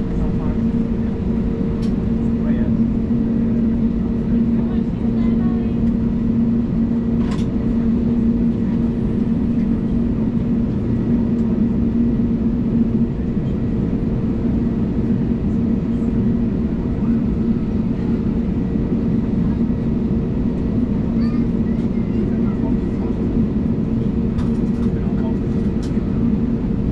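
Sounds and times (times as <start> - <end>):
aircraft cabin engine drone: 0.0 - 26.9.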